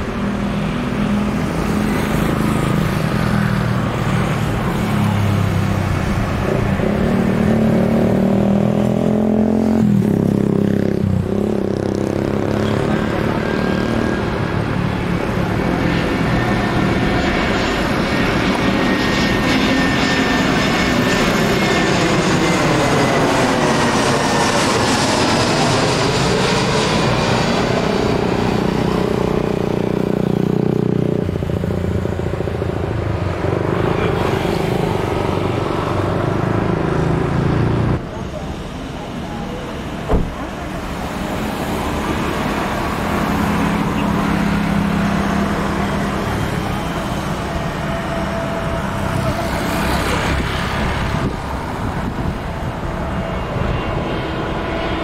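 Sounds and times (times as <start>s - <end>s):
jet aircraft roar overhead: 0.0s - 55.0s.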